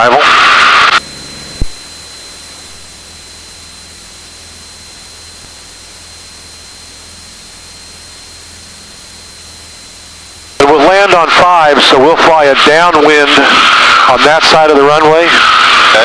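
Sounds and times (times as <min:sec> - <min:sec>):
thin high whine: 0:00.0 - 0:16.0
headset static hiss: 0:00.1 - 0:14.7
low engine hum: 0:00.9 - 0:14.1.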